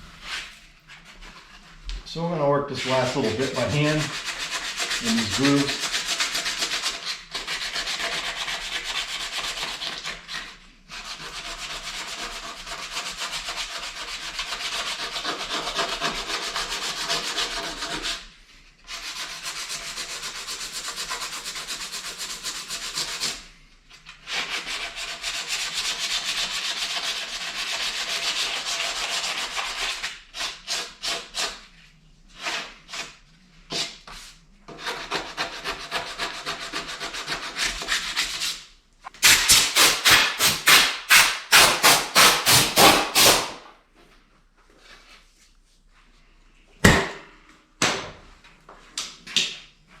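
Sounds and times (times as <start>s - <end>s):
sandpaper scratching on filler: 0.0s - 43.6s.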